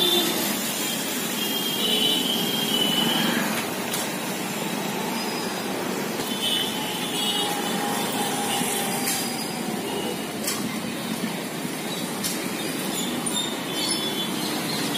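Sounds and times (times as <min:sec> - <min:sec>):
street traffic: 0:00.0 - 0:14.9.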